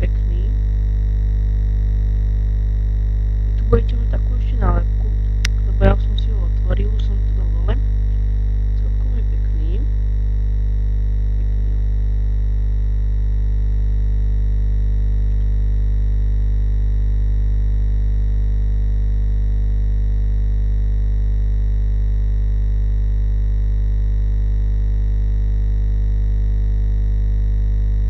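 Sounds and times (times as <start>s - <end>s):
loud electrical mains hum: 0.0s - 28.0s.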